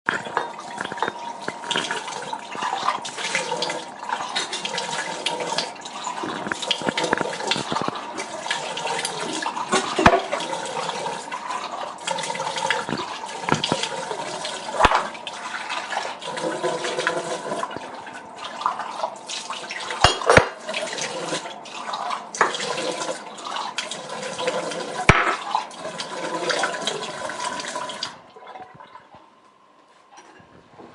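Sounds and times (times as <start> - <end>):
water trickling from a tap: 0.1 - 29.0.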